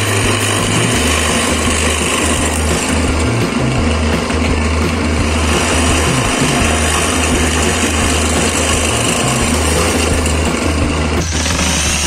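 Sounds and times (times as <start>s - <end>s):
drill bit boring into wood: 0.0s - 12.0s
drill press motor running: 0.0s - 12.0s.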